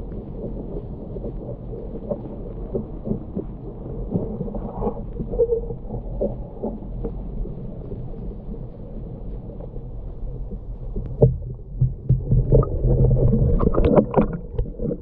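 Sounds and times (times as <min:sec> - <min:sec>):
muffled underwater rumble: 0:00.0 - 0:15.0
soft underwater ticks and knocks: 0:00.0 - 0:15.0.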